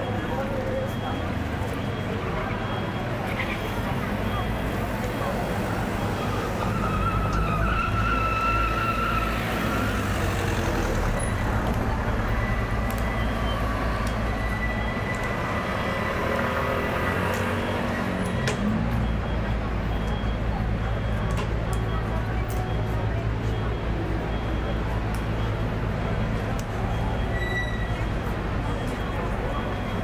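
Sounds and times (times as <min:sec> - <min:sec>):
car and motorbike engines passing: 0:00.0 - 0:27.2
low traffic rumble: 0:00.0 - 0:30.0.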